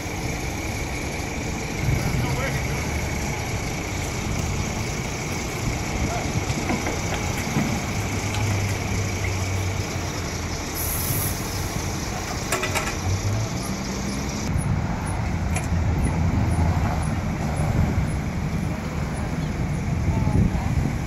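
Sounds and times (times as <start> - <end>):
heavy vehicle engine running: 0.0 - 21.0
road traffic noise: 0.0 - 21.0.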